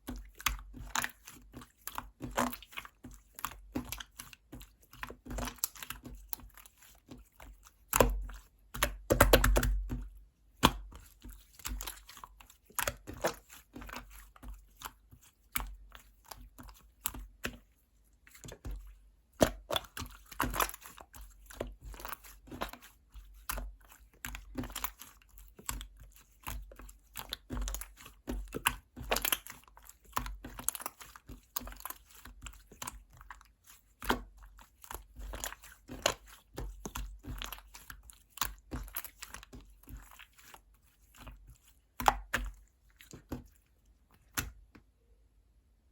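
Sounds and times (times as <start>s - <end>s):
slime squished by hand: 0.1s - 44.7s.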